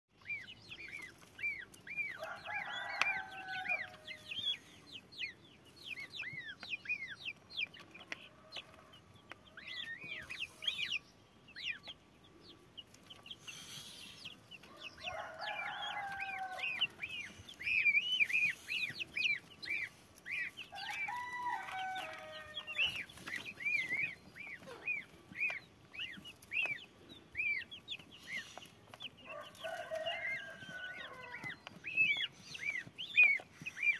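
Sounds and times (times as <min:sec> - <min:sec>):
goslings and chicks peeping: 0:00.2 - 0:33.9.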